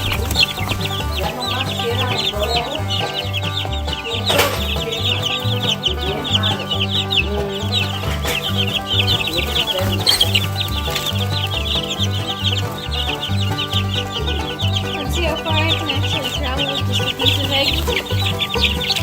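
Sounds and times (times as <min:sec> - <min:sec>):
chicks peeping: 0:00.0 - 0:19.0
music with plucked bass line: 0:00.0 - 0:19.0.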